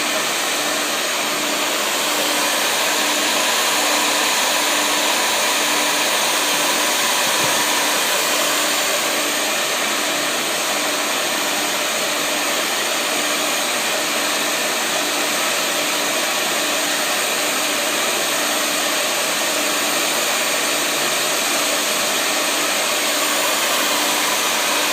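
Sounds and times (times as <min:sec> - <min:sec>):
rushing air from vent cleaning machine: 0:00.0 - 0:24.9.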